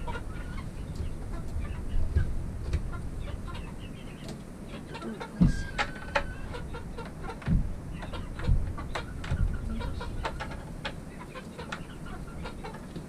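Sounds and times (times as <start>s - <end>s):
steady low rumble: 0.0s - 12.8s
chickens clucking: 0.0s - 13.0s.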